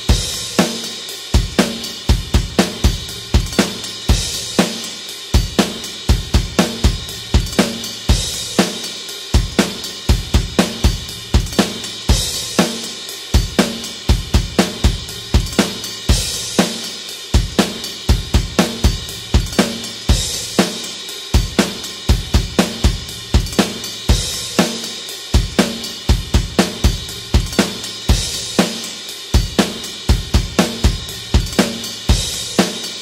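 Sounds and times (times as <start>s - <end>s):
crash cymbal: 0.0s - 33.0s
rock drum beat: 0.0s - 33.0s.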